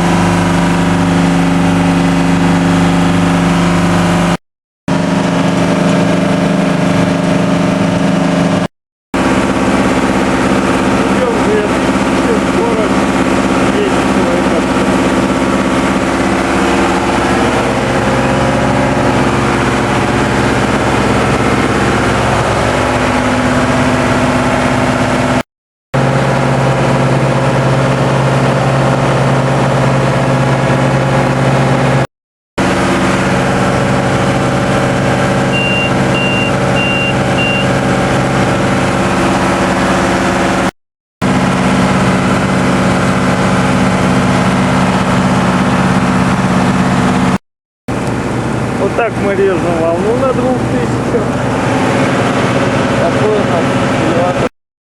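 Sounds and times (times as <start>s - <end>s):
marine diesel engine drone: 0.0s - 25.4s, 26.0s - 54.5s.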